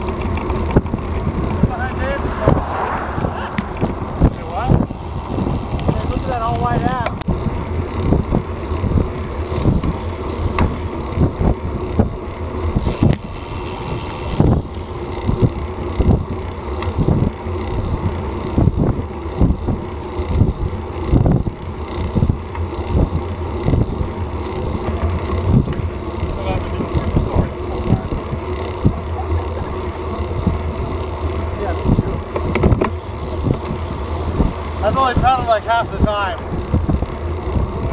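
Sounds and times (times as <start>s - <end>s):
wind on microphone: 0.0s - 31.0s, 31.7s - 37.9s
bicycle tyre noise: 0.0s - 37.9s
bike knocks and rattles: 3.8s - 35.5s, 36.3s - 37.9s.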